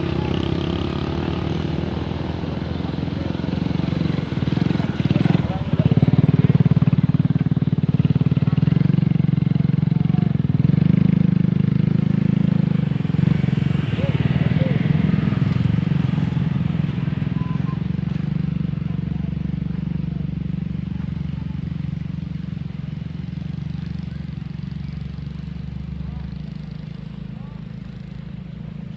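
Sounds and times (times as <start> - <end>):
diesel engine throbbing: 0.0 - 28.9.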